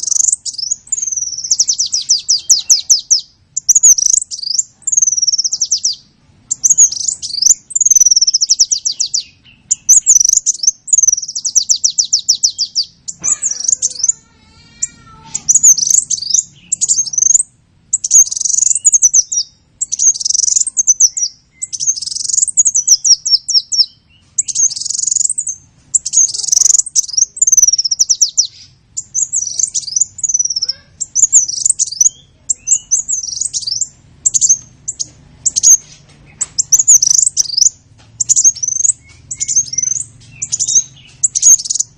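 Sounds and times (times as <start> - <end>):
songbird singing trilled notes: 0.0 - 41.9.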